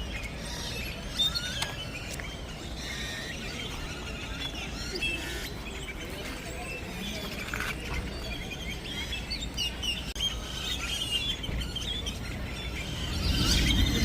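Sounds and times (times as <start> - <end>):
flock of birds chirping: 0.0 - 14.0.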